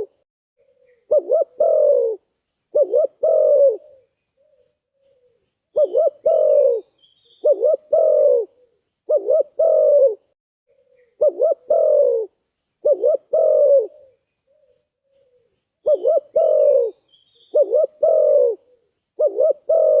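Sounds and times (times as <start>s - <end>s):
small birds chirping: 0.0s - 10.1s, 10.7s - 20.0s
dove cooing: 0.0s - 20.0s.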